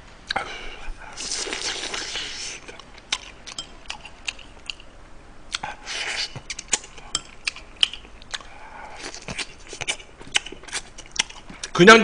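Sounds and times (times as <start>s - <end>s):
wet eating sounds: 1.0s - 4.9s, 5.5s - 11.8s
chewing and mouth smacks: 1.2s - 4.9s, 5.5s - 11.8s.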